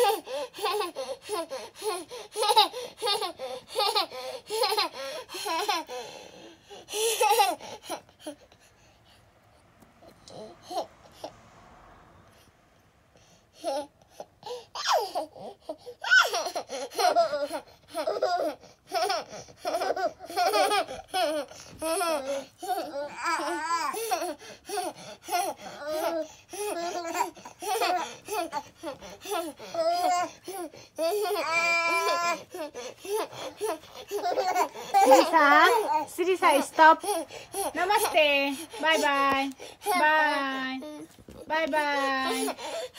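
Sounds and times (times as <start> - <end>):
baby laughing: 0.0 - 8.4, 13.6 - 42.9
young children laughing and babbling: 0.0 - 8.6, 13.5 - 42.9.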